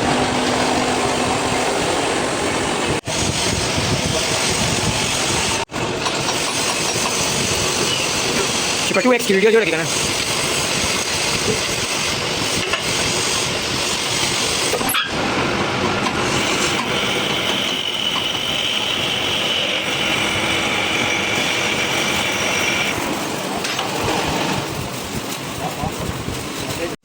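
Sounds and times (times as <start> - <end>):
metalworking machine noise: 0.0 - 27.0.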